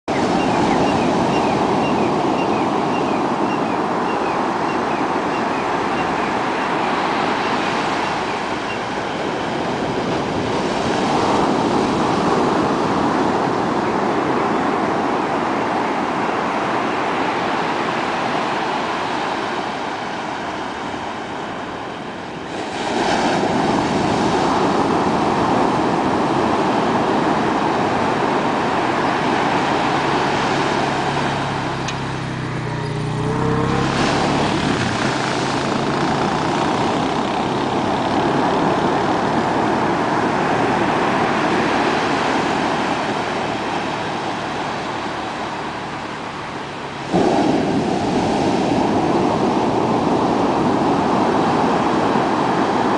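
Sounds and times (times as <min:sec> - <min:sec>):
ocean surf breaking on beach: 0:00.1 - 0:52.9.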